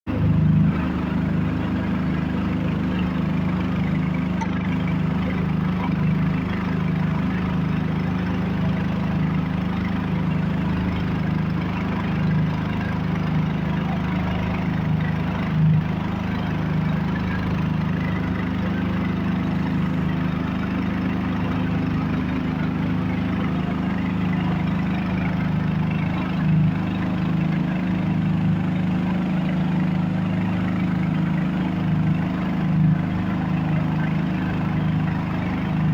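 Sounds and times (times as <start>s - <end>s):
compressor running: 0.1s - 35.9s.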